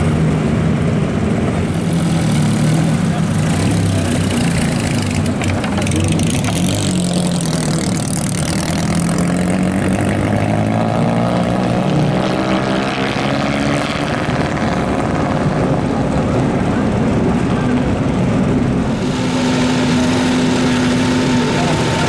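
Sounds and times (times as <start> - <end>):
race car engine running at low revs: 0.0 - 22.0.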